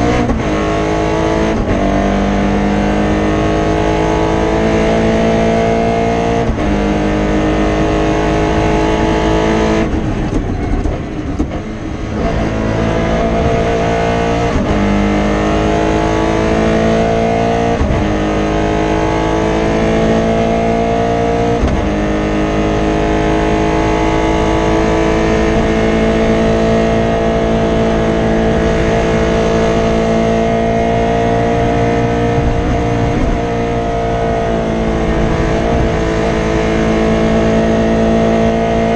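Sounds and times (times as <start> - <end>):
car engine pulling through gears: 0.0 - 38.9.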